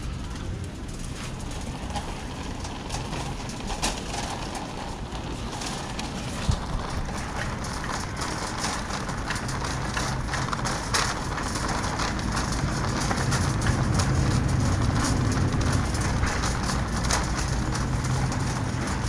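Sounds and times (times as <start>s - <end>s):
shopping cart rolling: 0.0s - 19.0s.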